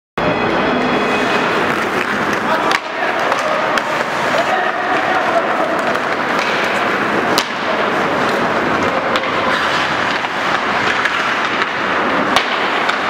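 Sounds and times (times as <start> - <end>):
rink crowd hubbub: 0.2 - 13.0
skates scraping on ice: 1.0 - 13.0
stick hitting puck: 1.7 - 13.0.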